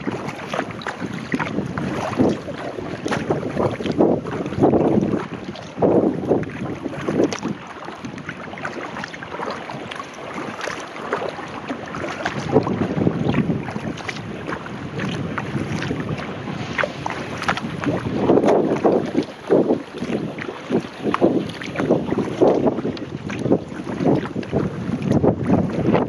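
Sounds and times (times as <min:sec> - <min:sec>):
kayak paddle splashing: 0:00.0 - 0:26.0
wind buffeting microphone: 0:00.0 - 0:26.0.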